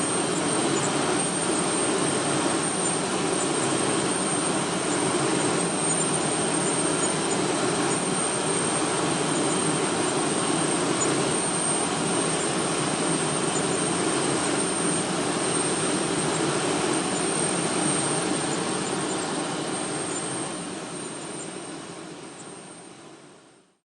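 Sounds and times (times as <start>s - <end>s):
jet engine rush and turbine whine: 0.0s - 23.8s.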